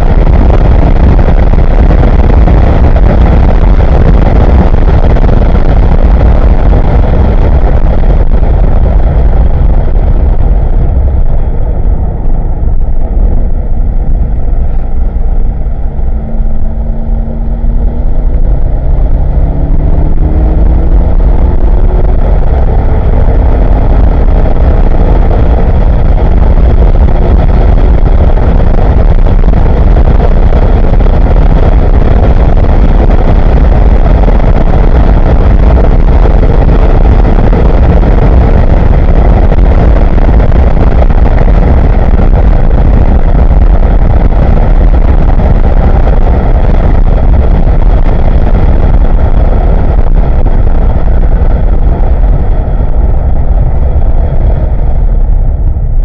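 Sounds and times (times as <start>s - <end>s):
car engine accelerating hard: 0.0s - 56.0s
wind and road noise: 0.0s - 56.0s.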